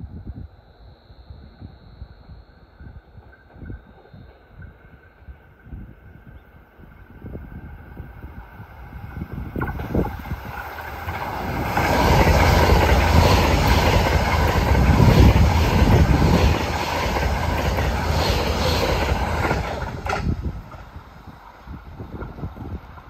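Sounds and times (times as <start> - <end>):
electric train passing at high speed: 0.0 - 23.0.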